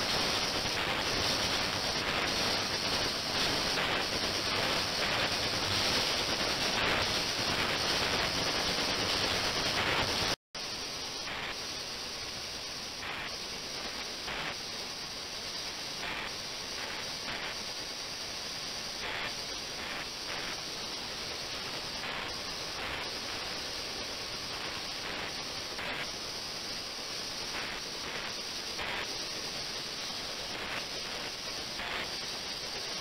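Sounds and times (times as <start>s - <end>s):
ultrasonic cleaner hissing: 0.0s - 33.0s.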